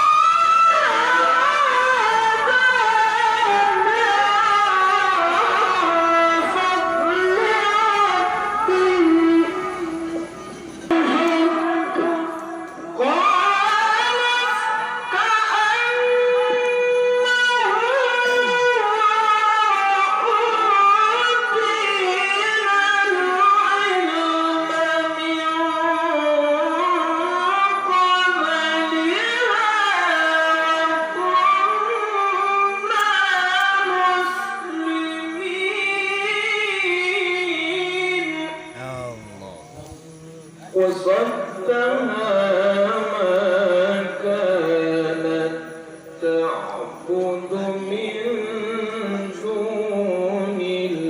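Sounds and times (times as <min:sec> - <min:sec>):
person reciting melismatic chant: 0:00.1 - 0:10.3, 0:10.9 - 0:45.6, 0:46.2 - 0:51.0.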